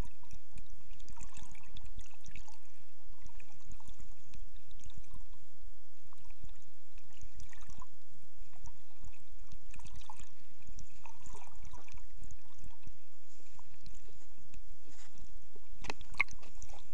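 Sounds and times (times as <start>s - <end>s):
faint crackles: 0.0s - 16.9s.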